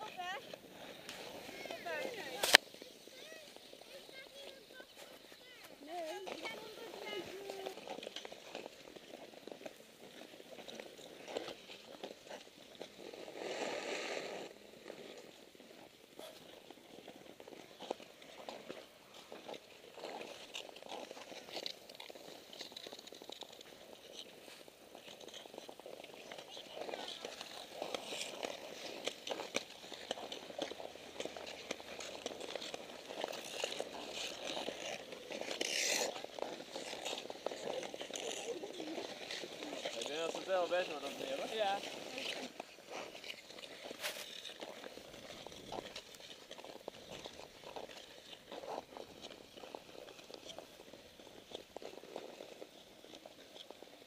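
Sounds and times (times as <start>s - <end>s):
ice skate blades scraping on ice: 0.0s - 54.0s.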